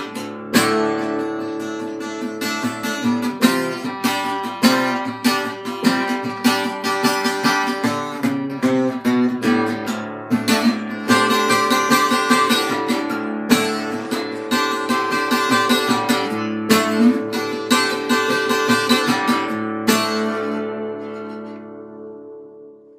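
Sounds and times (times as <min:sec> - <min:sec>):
acoustic guitar picking and strumming: 0:00.0 - 0:22.9.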